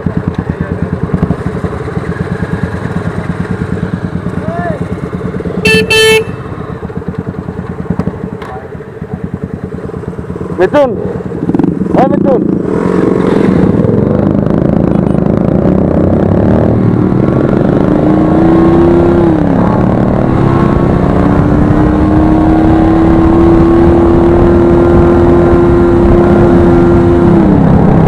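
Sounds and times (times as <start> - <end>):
motorcycle engine: 0.0 - 28.0
road and wind noise: 0.0 - 28.0.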